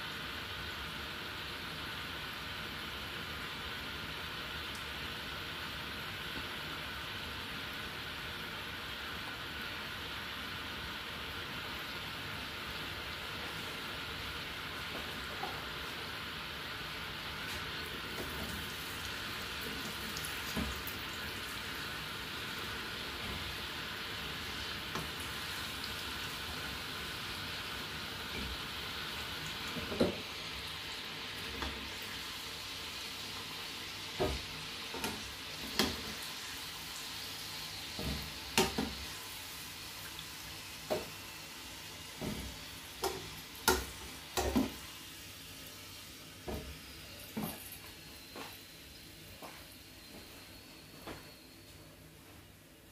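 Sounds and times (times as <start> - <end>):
food sizzling in hot oil: 0.0 - 49.0.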